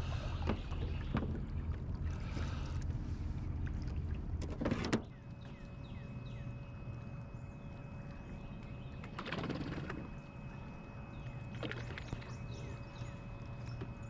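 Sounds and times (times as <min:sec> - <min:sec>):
low outdoor hum: 0:00.0 - 0:14.0.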